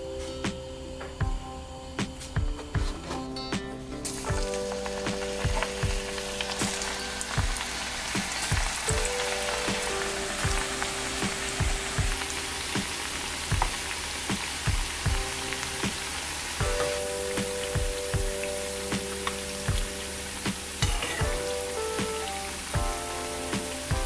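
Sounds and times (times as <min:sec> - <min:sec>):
background music with soft beat: 0:00.0 - 0:24.0
chips sizzling in hot oil: 0:03.2 - 0:24.0.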